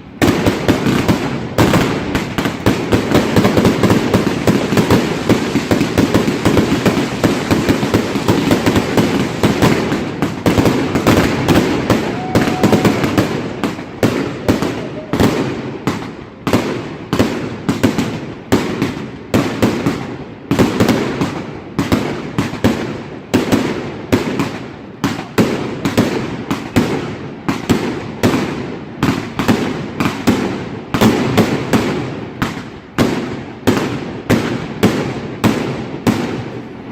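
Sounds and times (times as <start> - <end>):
fireworks bangs: 0.0 - 36.9.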